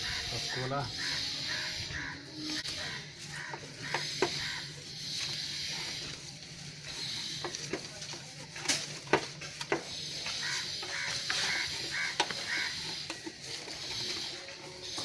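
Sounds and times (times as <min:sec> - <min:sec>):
bird calling: 0:00.0 - 0:07.8, 0:09.8 - 0:15.0.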